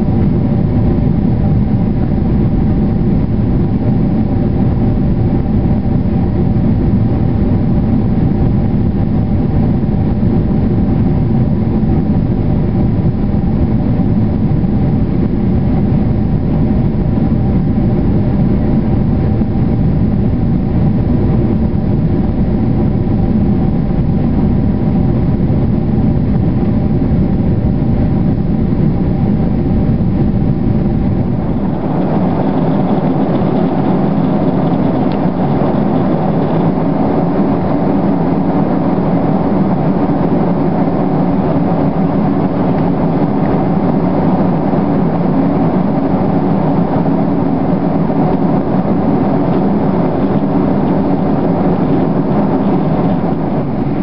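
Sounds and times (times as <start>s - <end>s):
cabin hum of steady tones: 0.0s - 54.0s
jet engine and airflow roar: 0.0s - 54.0s.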